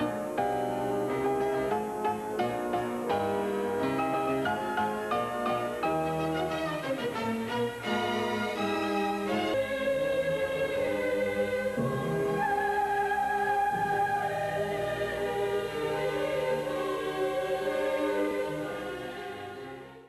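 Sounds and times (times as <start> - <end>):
music with singing voices: 0.0 - 20.0.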